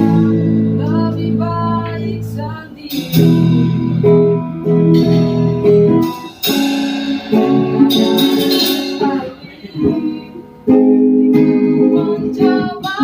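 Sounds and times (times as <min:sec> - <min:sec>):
guitar strumming chords: 0:00.0 - 0:13.0.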